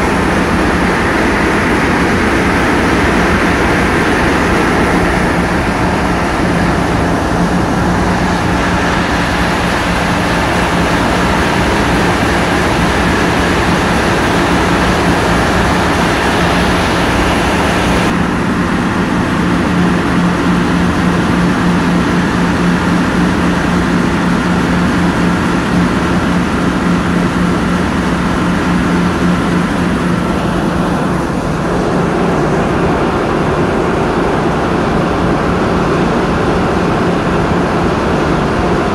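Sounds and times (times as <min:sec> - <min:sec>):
constant rushing noise: 0:00.0 - 0:38.9
ship engine low hum: 0:00.0 - 0:38.9.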